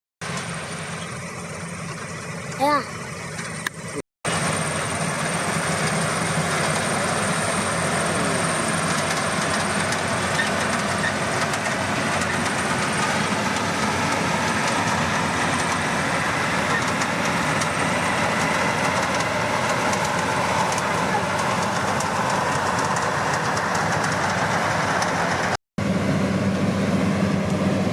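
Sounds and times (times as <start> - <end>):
combine harvester running: 0.2 - 27.9.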